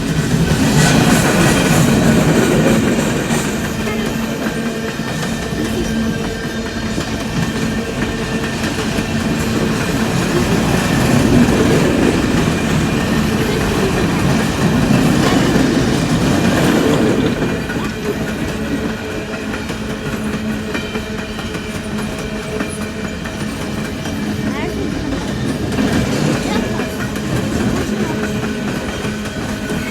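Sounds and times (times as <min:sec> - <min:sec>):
train wheels clattering on rails: 0:00.0 - 0:29.9.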